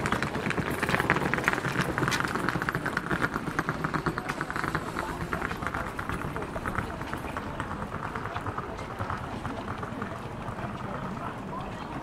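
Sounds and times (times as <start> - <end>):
faint chatter of passers-by: 0.0 - 12.0
footsteps on pavement: 0.0 - 12.0.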